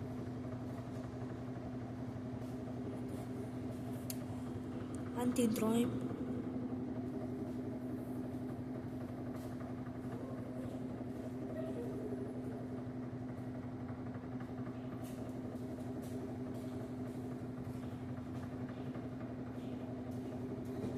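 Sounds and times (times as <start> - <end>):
washing machine humming: 0.0 - 20.9.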